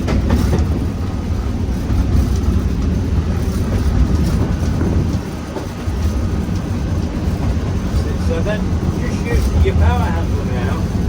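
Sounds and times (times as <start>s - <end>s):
diesel locomotive engine running: 0.0s - 11.0s
train wheels on rails: 0.0s - 11.0s.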